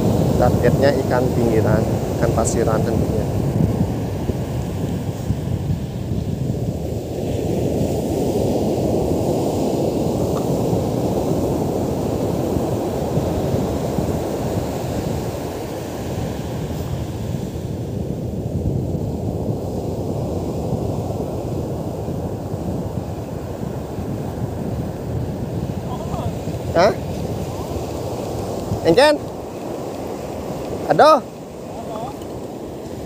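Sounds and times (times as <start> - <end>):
breaking surf: 0.0 - 33.0
wind buffeting microphone: 0.0 - 33.0.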